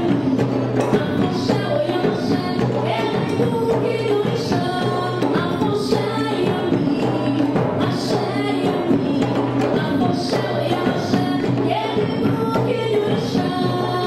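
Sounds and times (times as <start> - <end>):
percussion strokes: 0.0 - 14.0.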